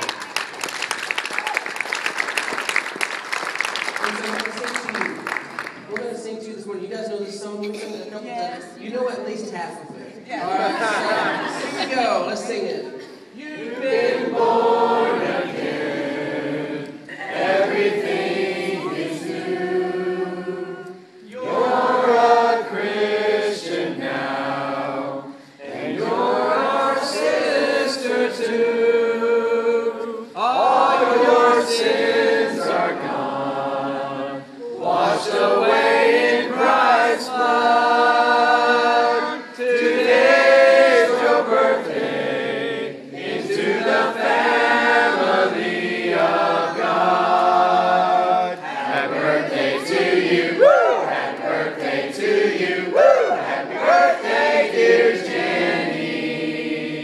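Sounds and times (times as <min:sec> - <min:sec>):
congregation singing: 0:10.2 - 0:57.0.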